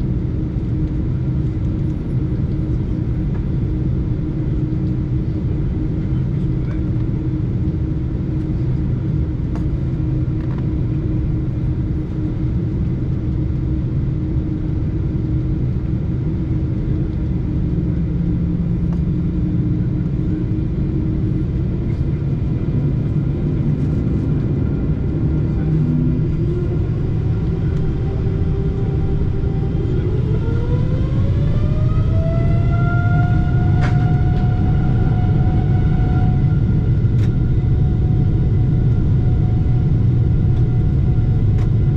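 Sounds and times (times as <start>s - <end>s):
jet engine whine rising: 0.0s - 41.9s
jet engines rumbling: 0.0s - 41.9s.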